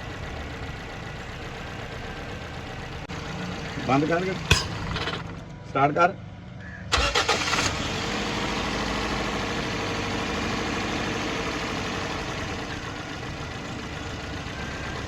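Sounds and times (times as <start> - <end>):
car engine starting and idling: 0.0 - 5.7, 6.9 - 15.0.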